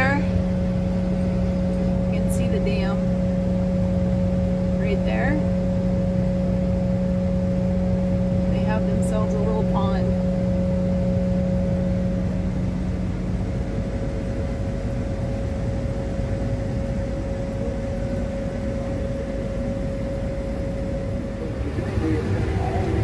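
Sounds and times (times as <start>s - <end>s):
combine engine droning: 0.0s - 23.0s
lower hum: 0.0s - 23.0s.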